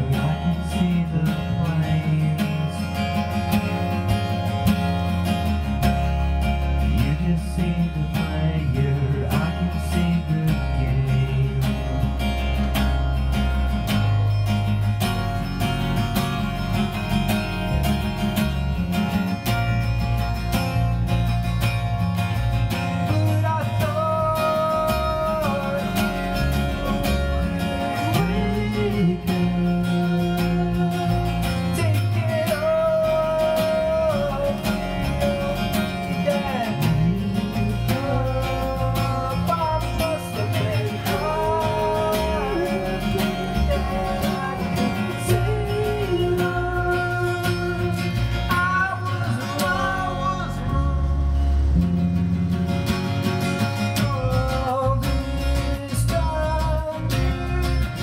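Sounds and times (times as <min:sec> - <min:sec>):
acoustic guitar: 0:00.0 - 0:58.0
electric bass: 0:00.0 - 0:58.0.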